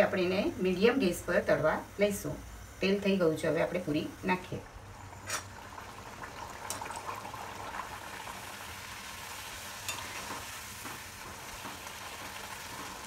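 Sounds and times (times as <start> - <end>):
oil sizzling in a pan: 0.0 - 13.0.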